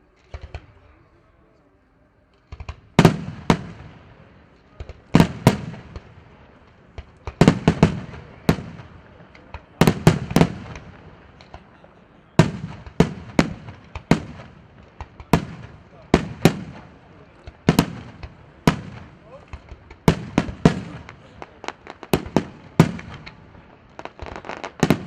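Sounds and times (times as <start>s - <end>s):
fireworks bangs echoing: 0.2s - 0.9s, 2.5s - 25.0s.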